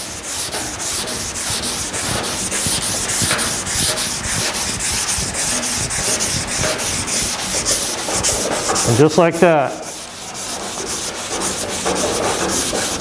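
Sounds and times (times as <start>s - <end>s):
sanding block rubbing metal: 0.0s - 13.0s.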